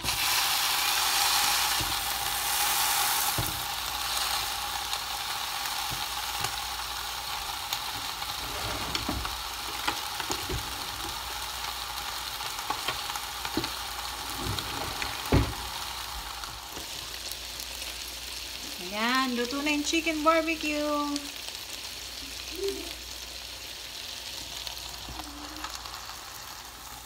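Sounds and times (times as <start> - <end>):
skewers sizzling in contact grill: 0.0 - 27.0.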